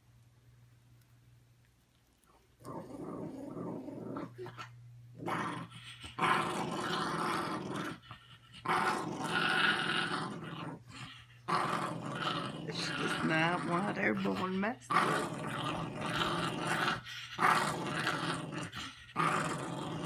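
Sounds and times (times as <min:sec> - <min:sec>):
small dog growling: 0:02.6 - 0:20.0.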